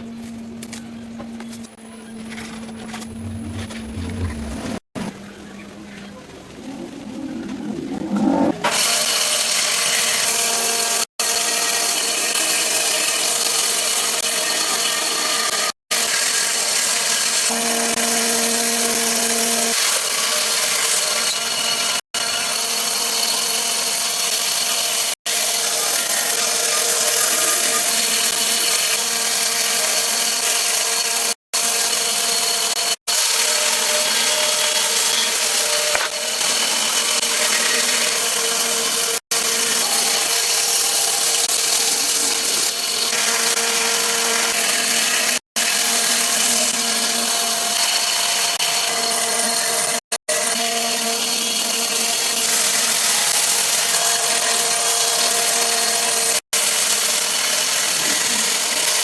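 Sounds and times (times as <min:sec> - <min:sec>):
power tool cutting wood: 0:08.2 - 0:59.0.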